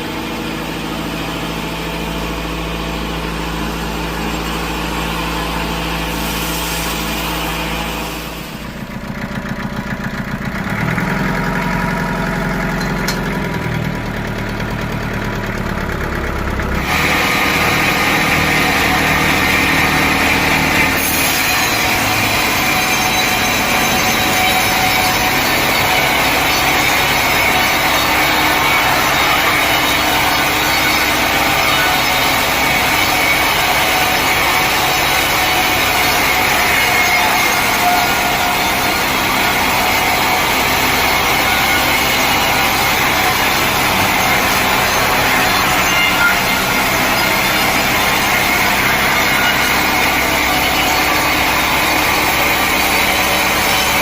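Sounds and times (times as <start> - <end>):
saw cutting through log: 0.0 - 8.9, 15.8 - 54.0
engine running steadily: 0.0 - 54.0.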